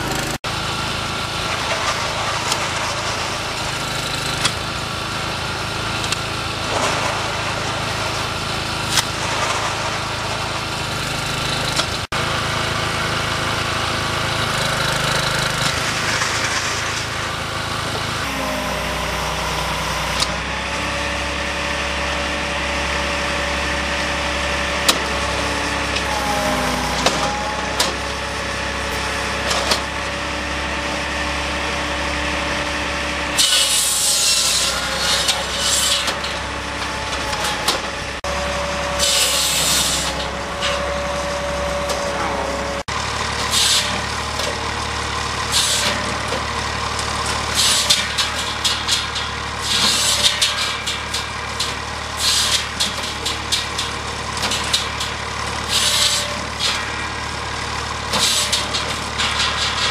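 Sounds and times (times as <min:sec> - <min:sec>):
logs being cut: 0:00.0 - 0:59.9
machinery engine drone: 0:00.0 - 0:59.9.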